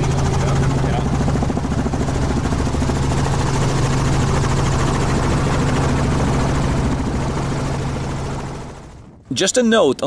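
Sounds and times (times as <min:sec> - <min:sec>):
helicopter rotor and engine: 0:00.0 - 0:10.0.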